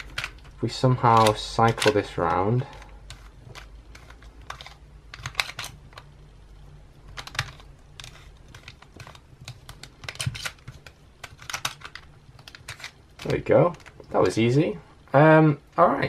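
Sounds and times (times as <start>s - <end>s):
plastic puzzle clicking: 0.0s - 6.1s, 7.1s - 14.1s.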